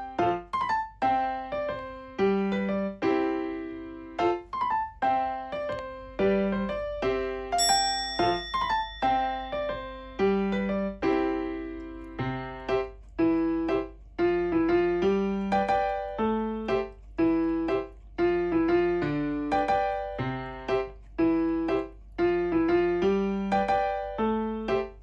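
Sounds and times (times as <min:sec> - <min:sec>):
piano melody: 0:00.0 - 0:25.0.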